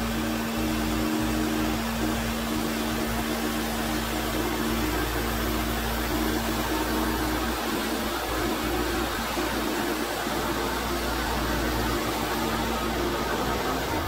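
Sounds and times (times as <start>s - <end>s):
sawmill engine running under load: 0.0s - 14.0s.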